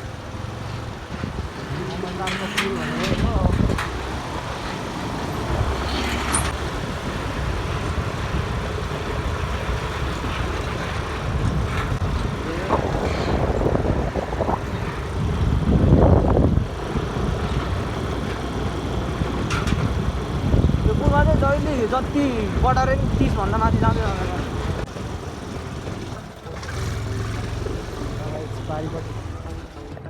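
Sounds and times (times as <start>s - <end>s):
road and wind noise: 0.0s - 30.0s
scooter engine running: 0.0s - 30.0s.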